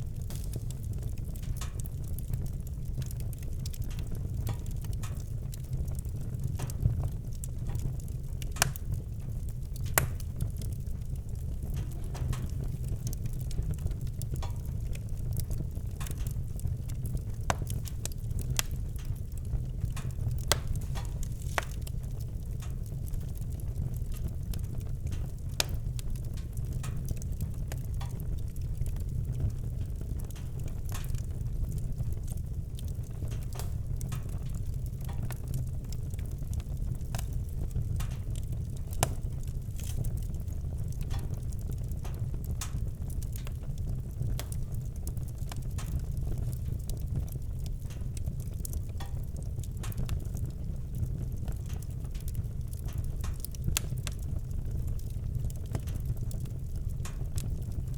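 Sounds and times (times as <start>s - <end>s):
campfire crackling and popping: 0.0s - 57.9s
low fire rumble: 0.0s - 57.9s.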